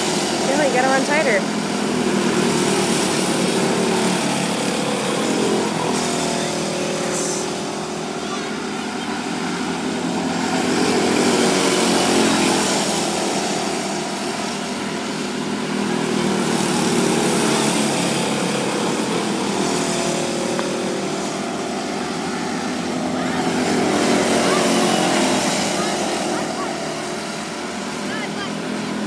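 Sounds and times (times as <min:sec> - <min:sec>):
small race car engines buzzing: 0:00.0 - 0:29.0.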